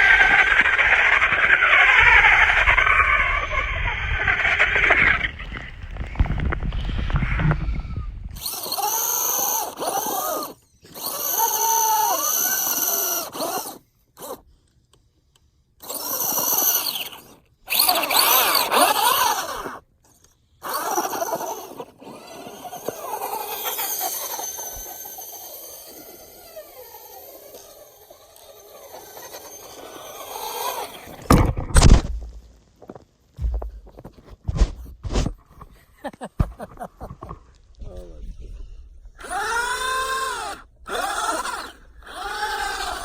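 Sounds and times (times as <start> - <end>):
toy car electric motor whining: 0.0 - 14.6, 15.8 - 32.3, 37.2 - 43.0.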